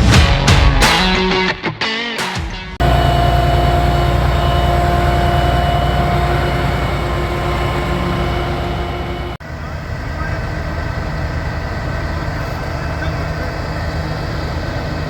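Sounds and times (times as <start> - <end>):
engine whine: 2.8 - 15.0
heavy vehicle engine rumble: 2.8 - 15.0.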